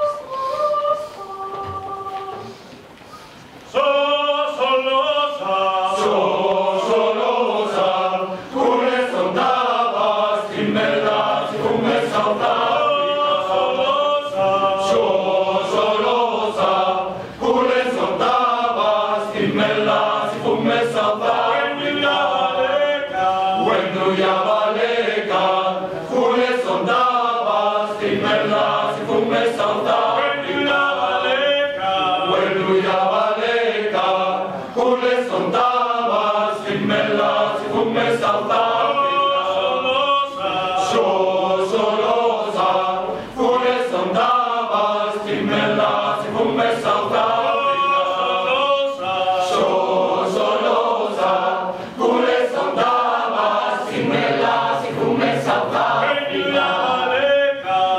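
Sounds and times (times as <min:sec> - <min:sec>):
mixed choir singing: 0:00.0 - 0:02.7, 0:03.7 - 0:57.9.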